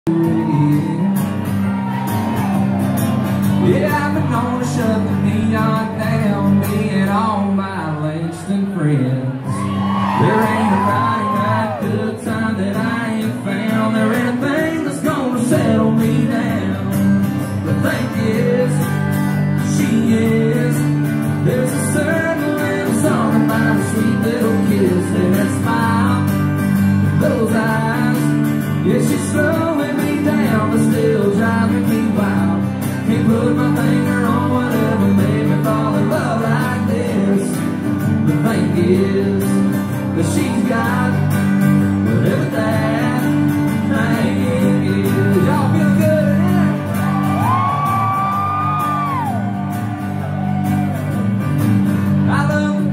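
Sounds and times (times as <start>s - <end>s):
man singing: 0.0s - 1.5s, 3.5s - 49.4s, 52.2s - 52.9s
acoustic guitars: 0.1s - 52.9s.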